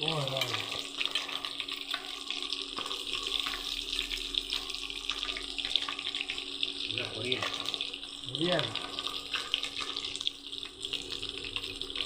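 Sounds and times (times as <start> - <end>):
fish deep-frying in hot oil: 0.0 - 12.0.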